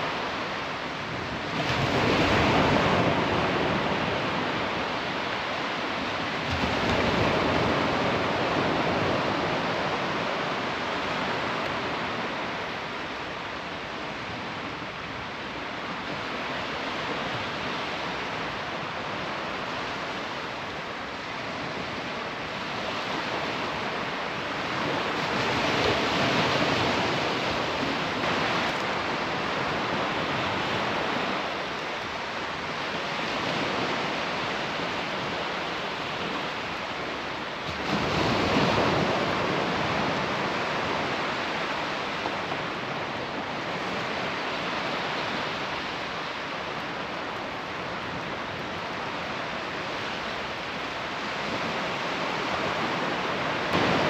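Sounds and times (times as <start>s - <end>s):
sea surf washing onto beach: 0.0s - 54.0s
waves breaking: 0.0s - 54.0s.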